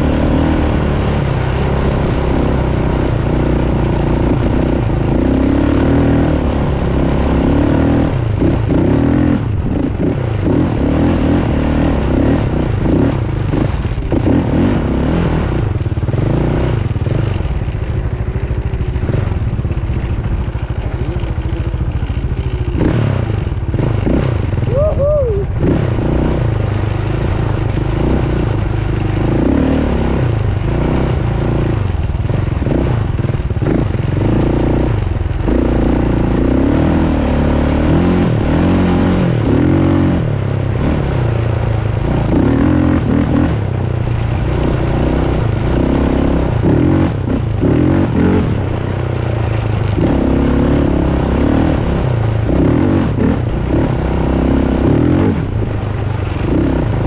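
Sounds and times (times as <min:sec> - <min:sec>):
constant rushing noise: 0:00.0 - 0:57.0
off-road vehicle engine revving: 0:00.0 - 0:57.0.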